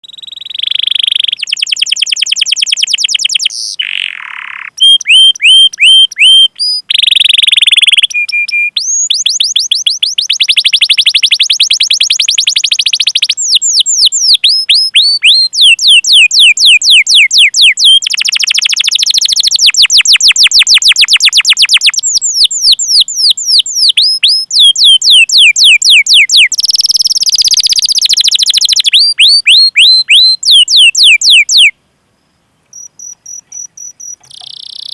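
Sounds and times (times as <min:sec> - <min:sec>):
canary chirps: 0:00.0 - 0:31.7, 0:32.7 - 0:34.9
canary trilling: 0:00.0 - 0:31.7, 0:32.7 - 0:34.9.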